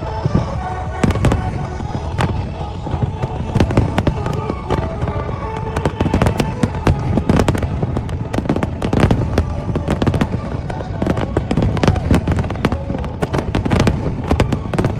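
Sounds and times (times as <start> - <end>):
fireworks bangs and cracks: 0.0 - 14.9
rumble of explosions: 0.0 - 14.9.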